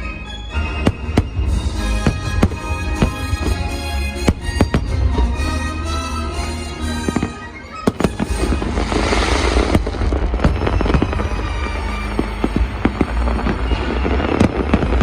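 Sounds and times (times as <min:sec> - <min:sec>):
show music: 0:00.0 - 0:14.9
fireworks bangs and pops: 0:00.8 - 0:05.6, 0:07.0 - 0:15.0
fireworks crackling: 0:00.8 - 0:05.8, 0:06.9 - 0:15.0.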